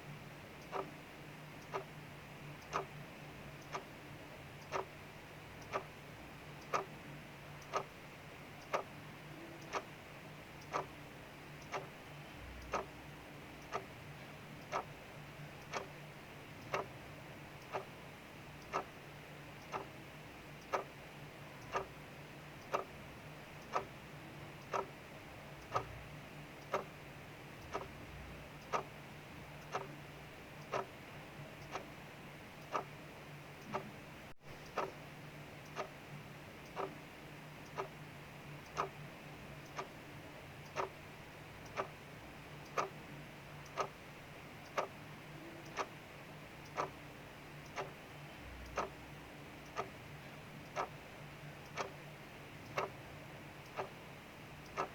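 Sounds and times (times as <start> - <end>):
mechanical clock ticking: 0.3 - 34.0, 34.6 - 54.9.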